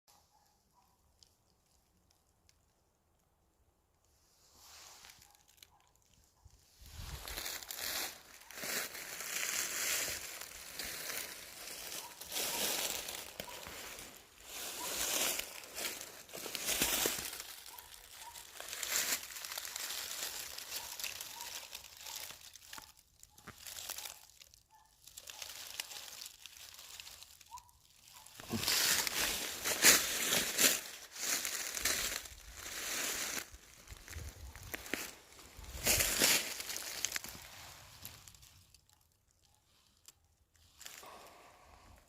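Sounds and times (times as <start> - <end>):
rustling and crunching: 4.2 - 42.0.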